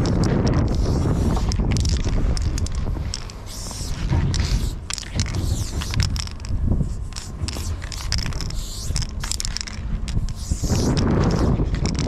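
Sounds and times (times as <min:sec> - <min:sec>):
spray-paint can hissing: 0:00.7 - 0:12.0.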